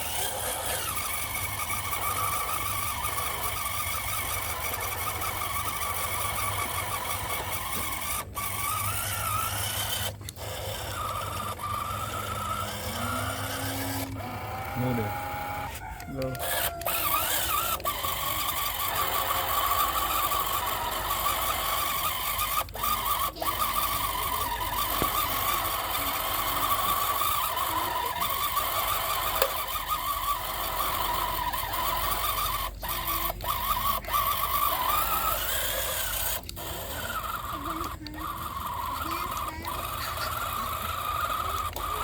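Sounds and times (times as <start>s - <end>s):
small motor whining: 0.0s - 42.0s.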